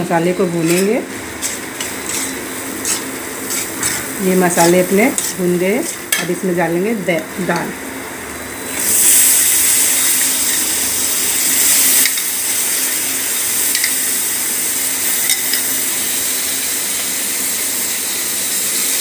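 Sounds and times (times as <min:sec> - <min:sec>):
lentils sizzling in hot oil: 0:00.0 - 0:19.0.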